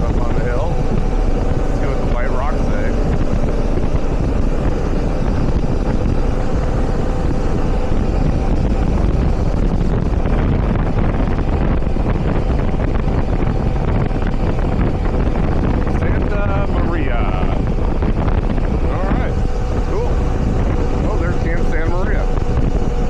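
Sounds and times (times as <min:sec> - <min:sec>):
faint engine tone: 0:00.0 - 0:23.0
motorcycle engine and road noise: 0:00.0 - 0:23.0
wind rush on microphone: 0:00.0 - 0:23.0.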